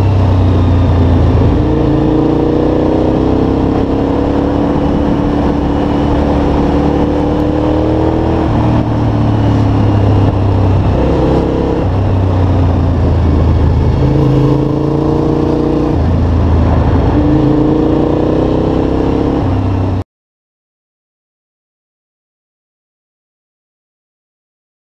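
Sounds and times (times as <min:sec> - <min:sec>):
motorcycle engine revving: 0:00.0 - 0:20.0
wind noise: 0:00.0 - 0:20.0.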